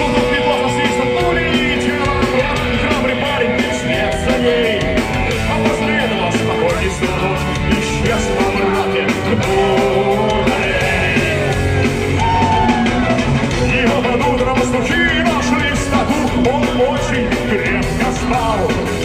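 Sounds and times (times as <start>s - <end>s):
punk rock band playing live: 0.0s - 19.0s.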